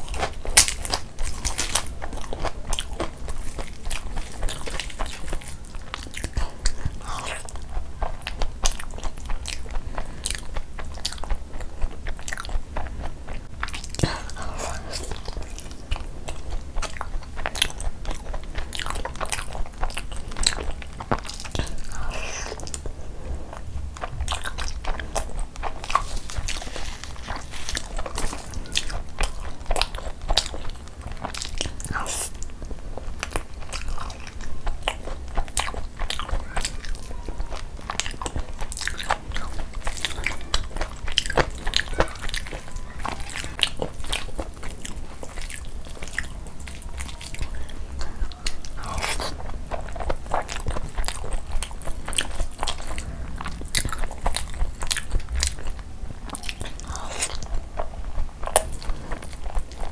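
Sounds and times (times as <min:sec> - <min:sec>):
chewing and biting food: 0:00.0 - 0:59.9
steady low hum: 0:00.0 - 0:59.9.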